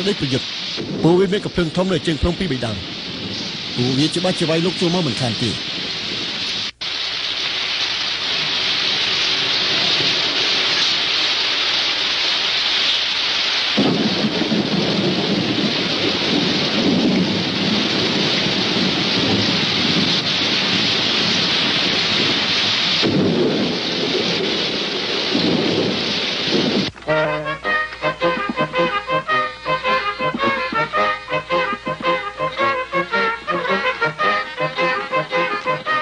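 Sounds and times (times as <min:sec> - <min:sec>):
low rolling thunder: 0:00.0 - 0:12.7, 0:13.8 - 0:36.0
heavy rain: 0:00.0 - 0:36.0.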